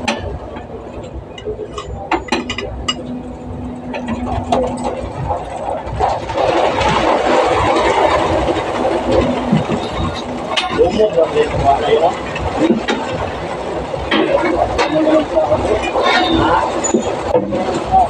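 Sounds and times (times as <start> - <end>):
rushing noise: 0.0 - 18.0.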